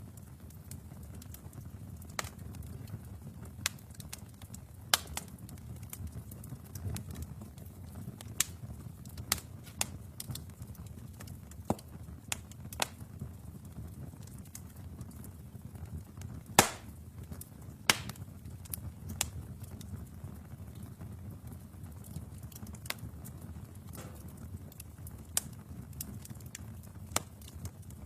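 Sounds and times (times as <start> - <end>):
fire flames rumbling: 0.0 - 28.0
wood crackling and popping: 0.0 - 28.0.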